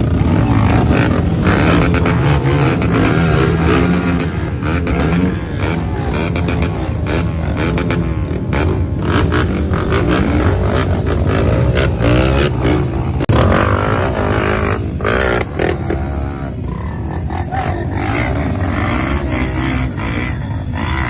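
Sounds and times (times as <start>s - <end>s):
motor vehicle engine rumble: 0.0s - 21.0s.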